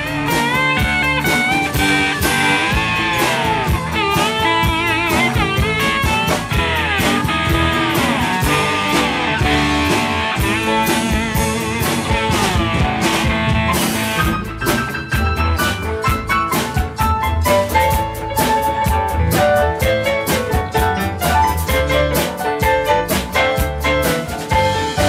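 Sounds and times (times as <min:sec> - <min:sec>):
blues-rock band playing: 0:00.0 - 0:25.0
pedal steel guitar solo: 0:00.0 - 0:25.0.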